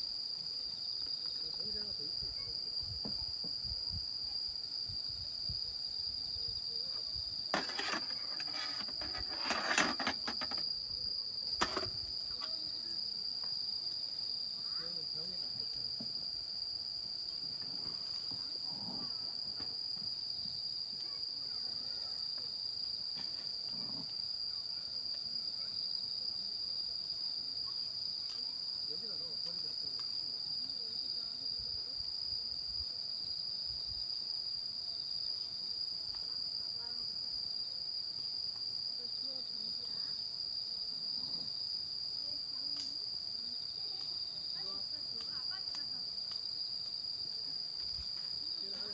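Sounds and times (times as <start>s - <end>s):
insect chorus trilling: 0.0s - 48.9s.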